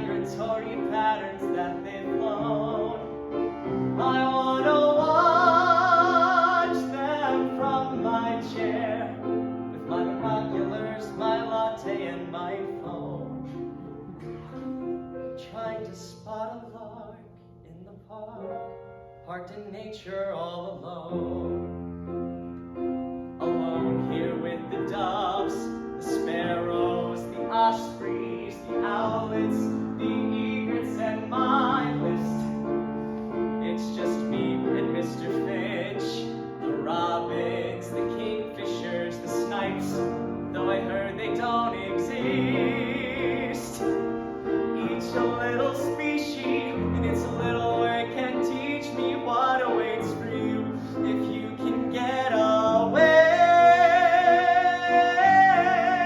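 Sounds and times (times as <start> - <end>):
piano instrumental show tune: 0.0 - 56.0.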